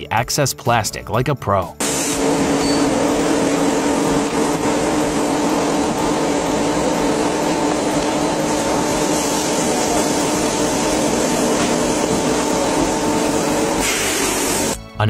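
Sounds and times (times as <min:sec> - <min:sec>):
blow-moulding machine drone: 0:01.8 - 0:14.8.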